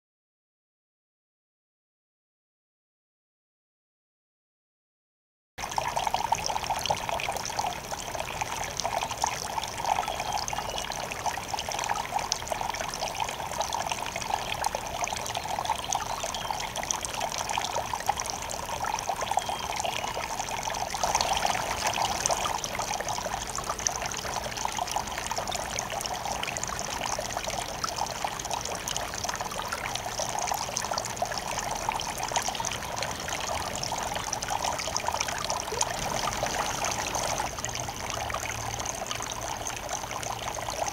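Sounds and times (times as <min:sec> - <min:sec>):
fountain water trickling and splashing: 0:05.6 - 0:40.9.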